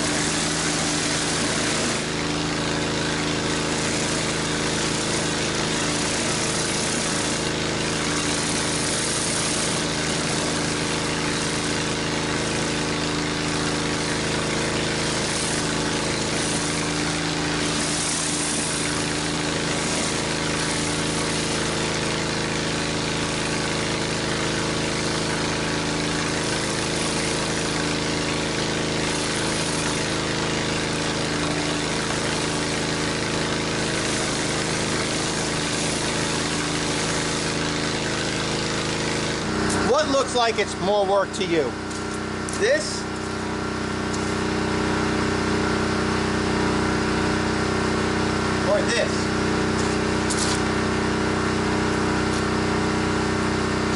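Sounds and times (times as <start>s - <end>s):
pressure washer engine hum: 0.0s - 53.9s
water spraying onto concrete: 0.0s - 53.9s.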